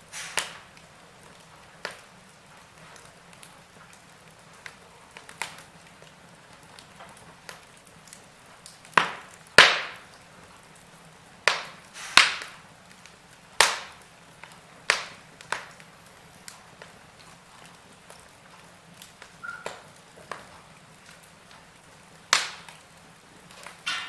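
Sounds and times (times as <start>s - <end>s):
loud sharp fire pops: 0.0s - 10.8s, 11.4s - 24.0s
faint steady hiss: 0.0s - 24.0s
wood fire crackling: 0.0s - 24.0s.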